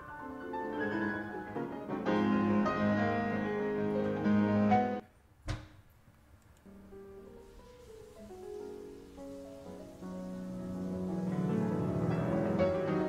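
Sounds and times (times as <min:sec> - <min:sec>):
piano music: 0:00.0 - 0:05.0, 0:06.7 - 0:13.0.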